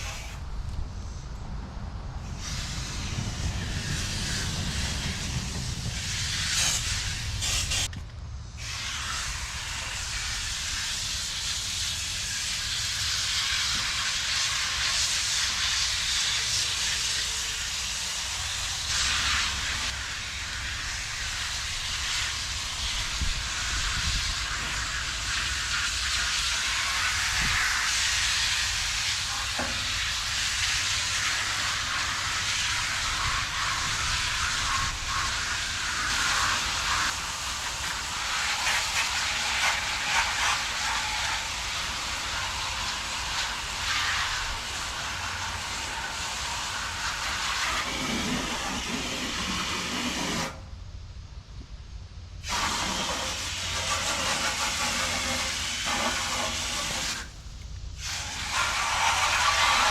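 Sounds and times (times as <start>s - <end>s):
water spray hissing on coils: 0.0s - 1.2s, 2.2s - 7.9s, 8.6s - 50.7s, 52.4s - 59.9s.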